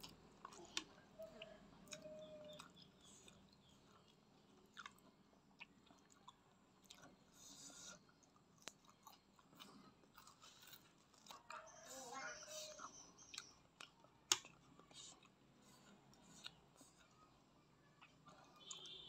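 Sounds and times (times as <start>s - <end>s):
faint chewing of food: 0.0s - 19.0s.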